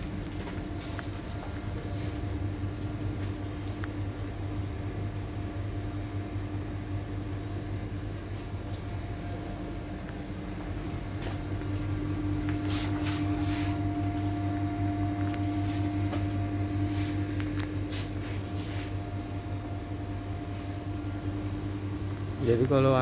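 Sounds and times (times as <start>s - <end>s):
machine electric hum: 0.0s - 23.0s.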